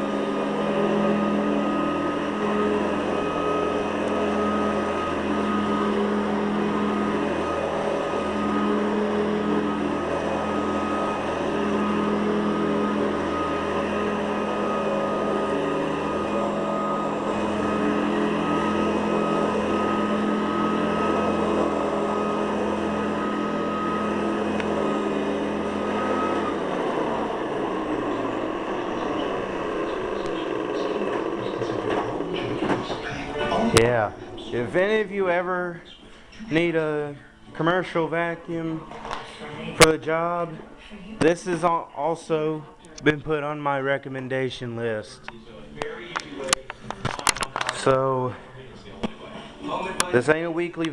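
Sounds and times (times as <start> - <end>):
upright vacuum cleaner running: 0.0 - 43.9, 45.2 - 50.9.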